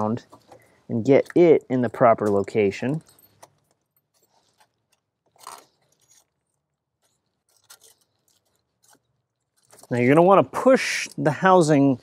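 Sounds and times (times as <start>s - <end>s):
metal parts scraping and clicking: 0.3s - 10.3s.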